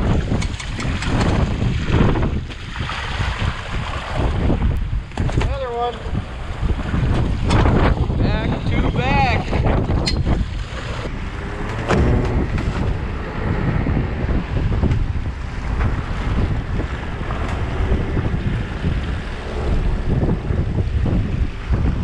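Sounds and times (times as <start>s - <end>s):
choppy waves splashing: 0.0s - 22.0s
wind buffeting microphone: 0.0s - 22.0s.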